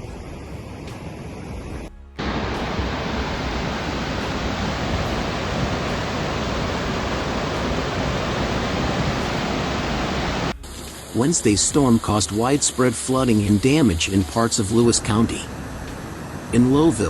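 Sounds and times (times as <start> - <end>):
floodwater rushing: 2.2 - 17.0.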